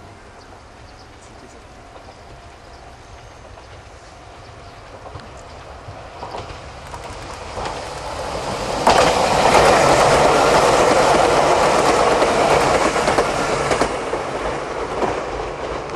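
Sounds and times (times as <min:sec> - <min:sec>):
electric train passing: 0:00.0 - 0:15.9
wheels clicking over rail joints: 0:01.0 - 0:15.9.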